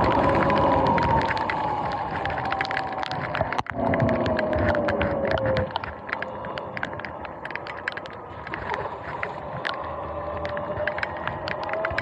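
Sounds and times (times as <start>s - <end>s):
rain tapping on camera: 0.0s - 12.0s.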